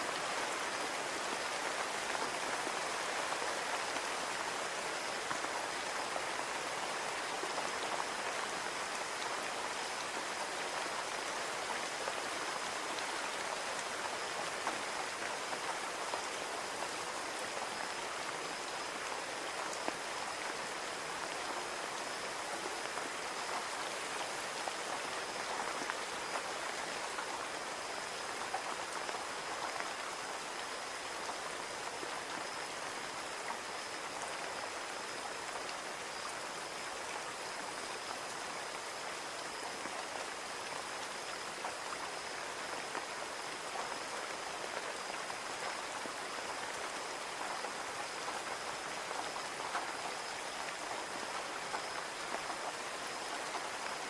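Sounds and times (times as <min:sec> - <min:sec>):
rain pattering on a window: 0:00.0 - 0:54.0.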